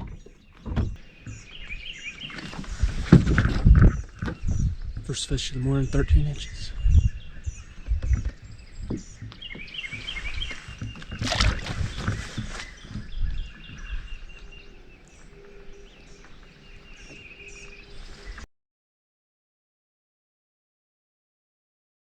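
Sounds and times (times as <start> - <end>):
birds chirping: 0.0 - 18.5.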